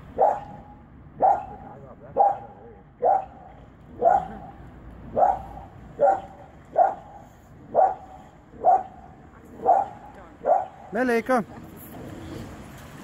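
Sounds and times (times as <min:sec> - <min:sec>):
dog barking: 0:00.2 - 0:10.9.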